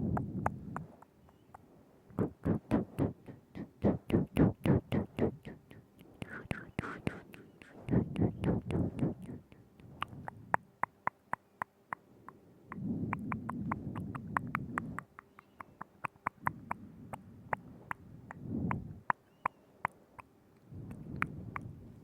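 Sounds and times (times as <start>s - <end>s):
wet tongue and lip clicks: 0.0s - 1.6s, 2.2s - 21.8s
soft wet mouth smacking: 0.1s - 1.6s, 2.2s - 18.8s, 20.6s - 21.7s.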